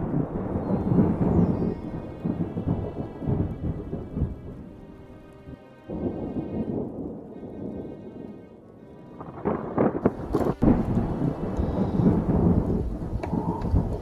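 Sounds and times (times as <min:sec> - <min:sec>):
rain-like hiss: 0:00.0 - 0:14.0
thunder rumble: 0:00.0 - 0:14.0.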